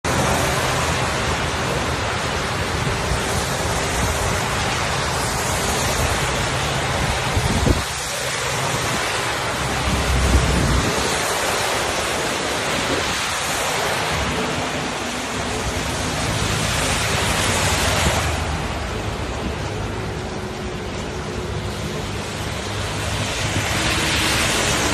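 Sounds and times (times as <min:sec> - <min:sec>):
heavy rain: 0:00.0 - 0:24.9
wind buffeting microphone: 0:00.1 - 0:20.4.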